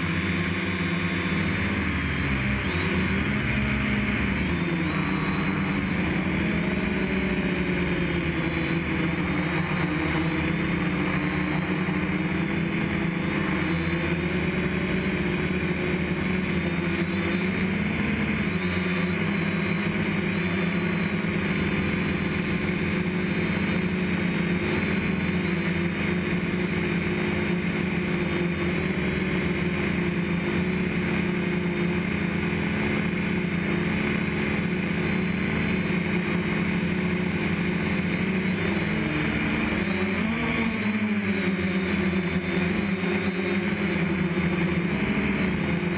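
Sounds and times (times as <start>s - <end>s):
drone motors and propellers: 0.0s - 45.9s
thin high whine: 0.0s - 45.9s.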